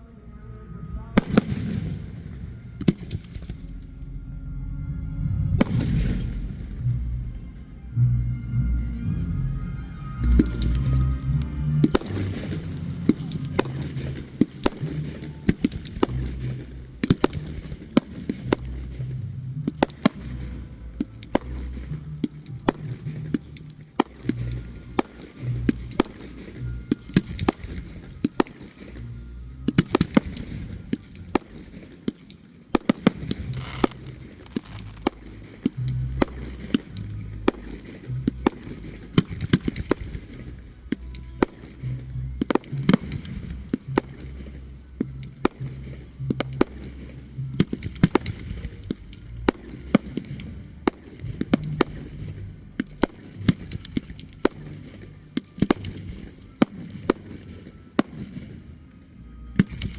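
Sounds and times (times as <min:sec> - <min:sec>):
low rumble: 0:00.0 - 0:32.0, 0:32.8 - 0:57.4
fireworks bangs and cracks: 0:01.2 - 0:02.2, 0:05.6 - 0:06.5, 0:11.8 - 0:58.6.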